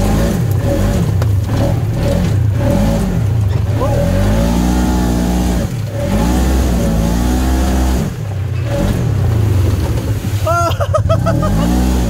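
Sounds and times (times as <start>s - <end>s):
engine revving in surges: 0.0s - 10.4s, 11.0s - 12.0s.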